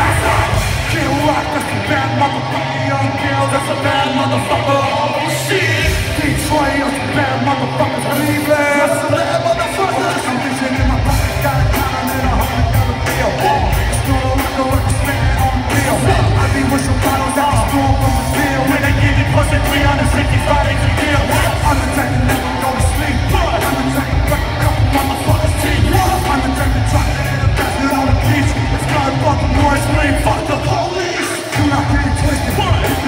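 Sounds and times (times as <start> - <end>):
live rock band playing: 0.0 - 33.0
singer yelling into microphone: 0.0 - 33.0.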